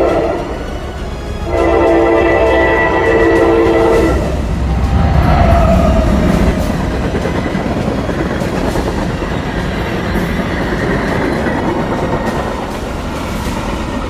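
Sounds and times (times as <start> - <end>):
train wheels running on rails: 0.0 - 14.0.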